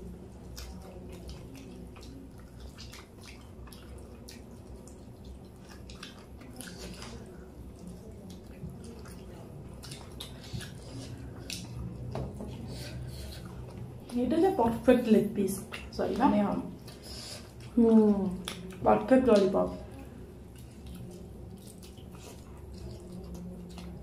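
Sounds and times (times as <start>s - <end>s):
wet chewing and sucking: 0.0s - 14.2s, 15.6s - 24.0s
low steady hum: 0.0s - 24.0s.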